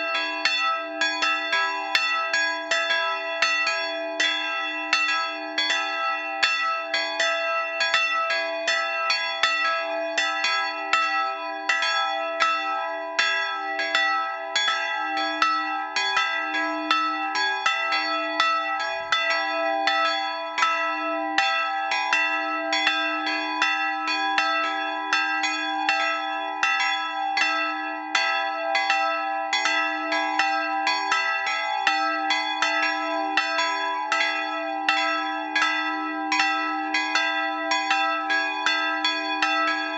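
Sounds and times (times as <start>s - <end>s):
bells ringing: 0.0s - 39.9s.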